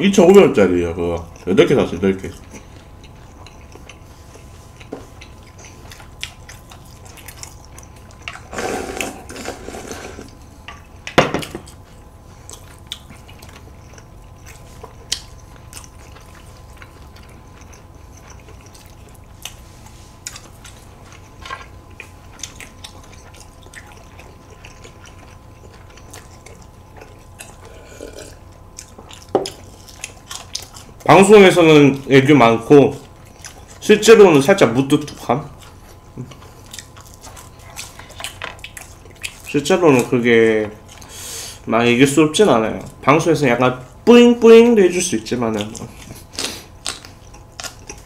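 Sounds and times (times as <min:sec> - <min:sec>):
chewing: 0:01.1 - 0:41.7, 0:45.4 - 0:48.0.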